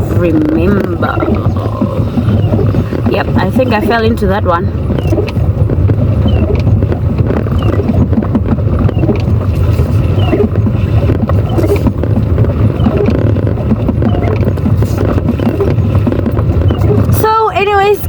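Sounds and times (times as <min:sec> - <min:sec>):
car interior road rumble: 0:00.0 - 0:18.0.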